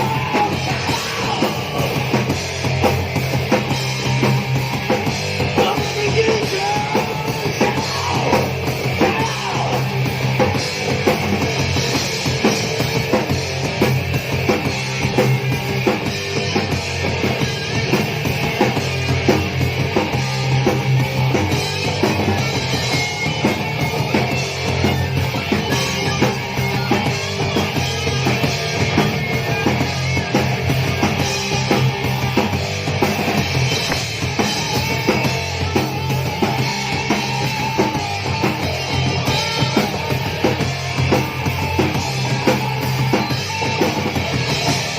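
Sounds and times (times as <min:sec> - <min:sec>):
drum kit hammering a beat: 0:00.0 - 0:44.9
punk band playing live: 0:00.0 - 0:44.9.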